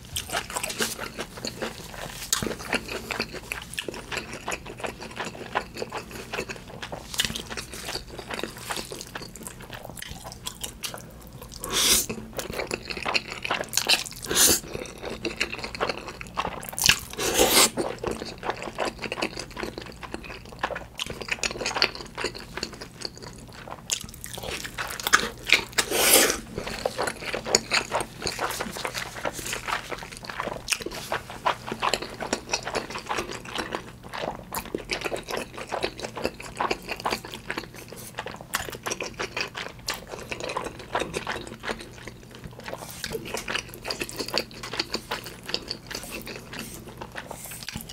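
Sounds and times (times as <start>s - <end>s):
wet chewing and mouth clicks: 0.0s - 47.9s.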